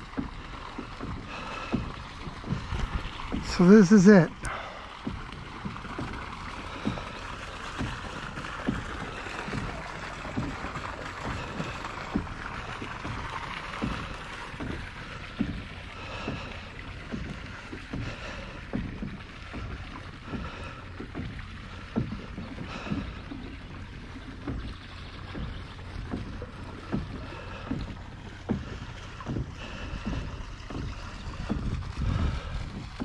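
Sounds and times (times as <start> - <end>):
kayak pedal drive thumps: 0.1 - 33.0.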